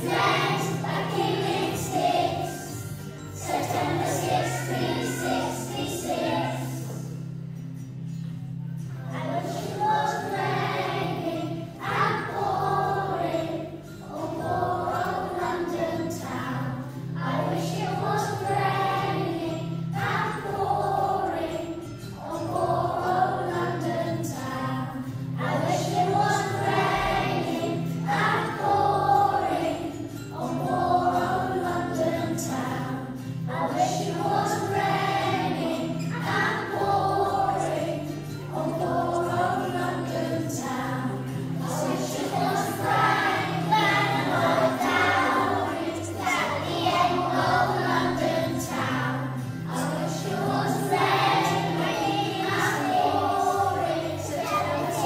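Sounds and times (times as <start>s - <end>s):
children singing in unison: 0.0s - 7.4s, 9.0s - 55.0s.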